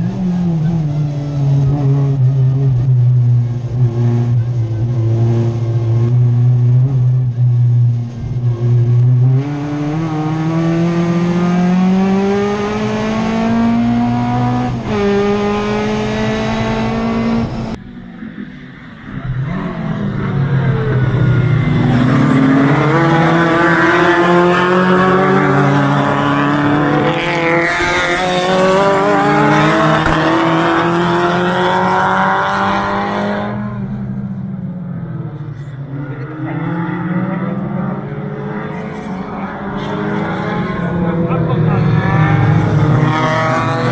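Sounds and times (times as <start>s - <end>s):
race car engine revving: 0.0s - 43.9s
race cars passing at full throttle: 0.0s - 43.9s.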